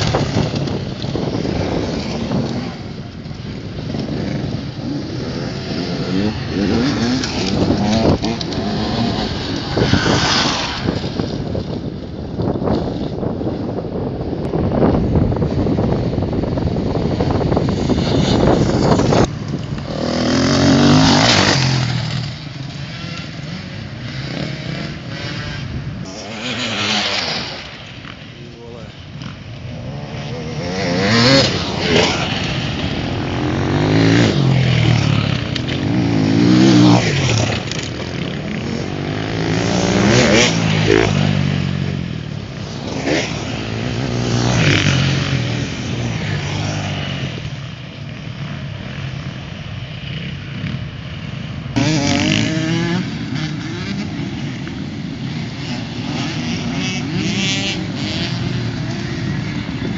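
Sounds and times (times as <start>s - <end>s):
motorcycles racing past: 0.0s - 13.9s, 14.7s - 59.9s.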